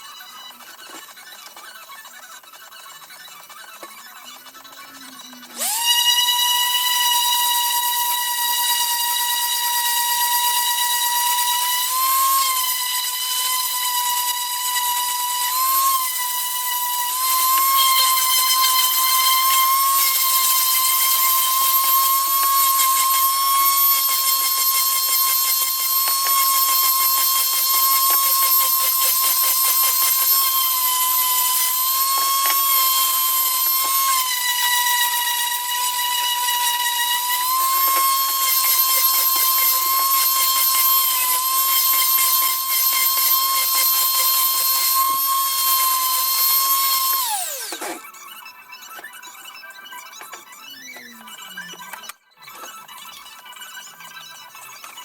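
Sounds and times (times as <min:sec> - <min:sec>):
power tool motor whine: 0:00.0 - 0:55.0.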